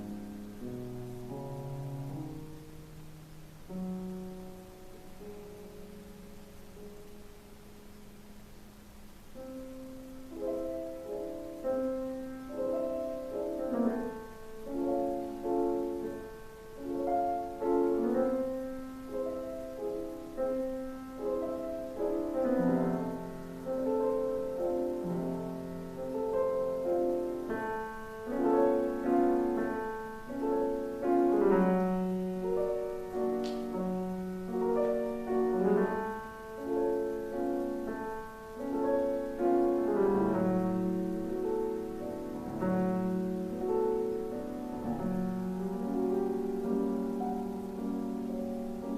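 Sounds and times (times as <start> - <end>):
slow solo piano: 0.0 - 48.9.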